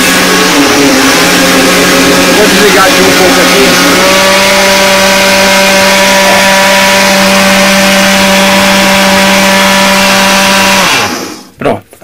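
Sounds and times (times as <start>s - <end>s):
kitchen appliance motors whining: 0.0s - 11.5s.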